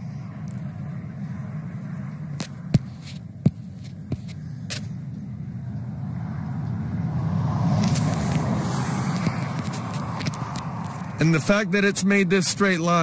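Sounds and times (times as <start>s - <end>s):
car rumbling: 0.0s - 13.0s.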